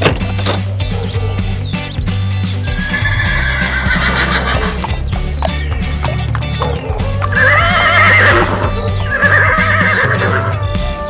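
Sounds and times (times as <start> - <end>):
background music: 0.0 - 11.0
horse hooves clip-clopping: 0.0 - 11.0
horse whinnying: 0.0 - 11.0.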